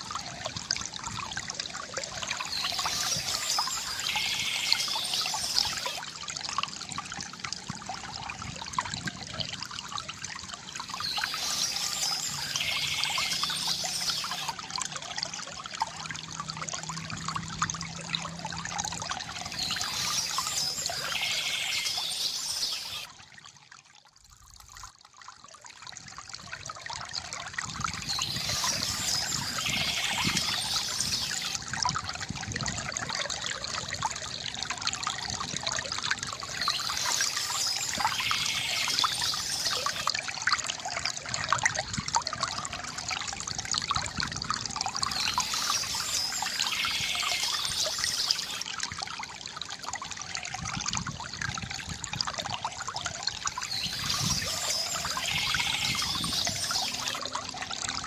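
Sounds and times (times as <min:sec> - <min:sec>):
fountain water trickling into basin: 0:00.0 - 0:58.0.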